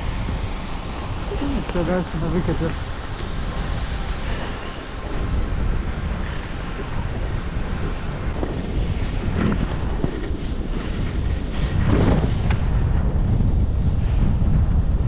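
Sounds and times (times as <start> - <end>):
skis sliding through snow: 0.0 - 12.6
wind buffeting microphone: 0.0 - 15.0.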